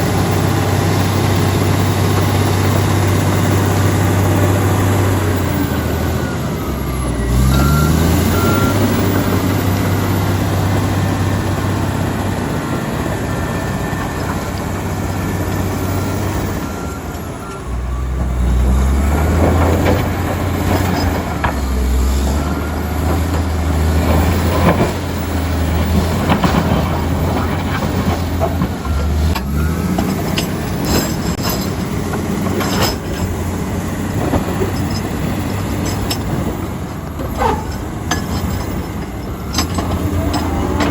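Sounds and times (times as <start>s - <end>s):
bulldozer diesel engine working hard: 0.0s - 40.9s.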